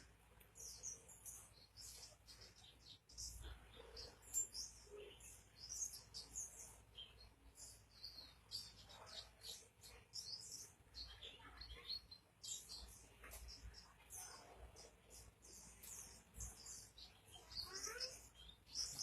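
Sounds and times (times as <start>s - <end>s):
small bird twittering: 0.0s - 19.0s.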